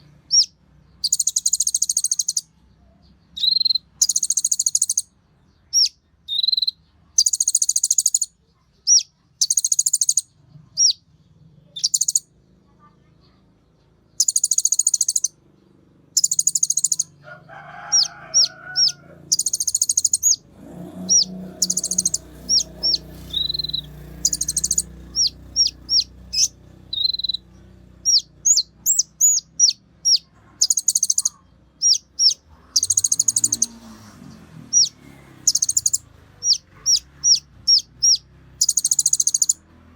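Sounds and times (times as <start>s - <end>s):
bird buzzy trills: 0.0s - 2.5s, 3.4s - 5.1s, 5.8s - 8.3s, 11.7s - 12.3s, 14.2s - 15.4s, 16.1s - 39.6s.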